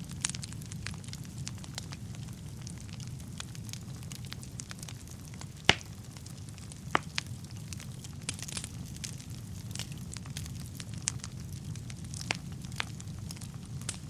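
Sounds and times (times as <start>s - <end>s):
crackles and pops: 0.0s - 14.0s
fire burning: 0.0s - 14.0s.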